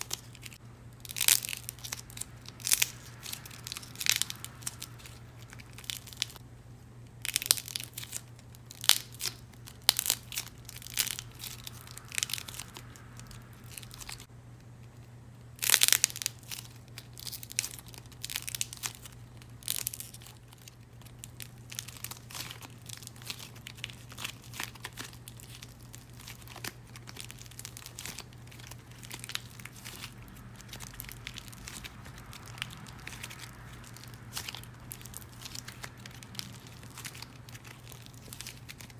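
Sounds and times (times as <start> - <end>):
dried clay cracking and snapping: 0.0 - 6.4, 7.1 - 38.9.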